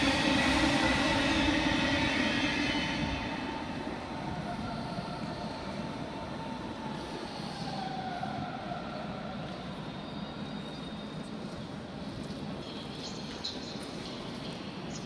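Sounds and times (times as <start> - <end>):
train rumble and hum: 0.0 - 15.0.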